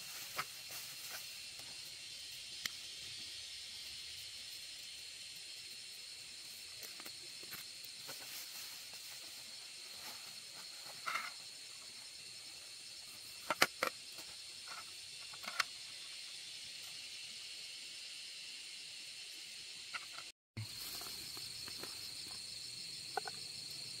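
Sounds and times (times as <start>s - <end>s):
forest insects droning: 0.0s - 24.0s.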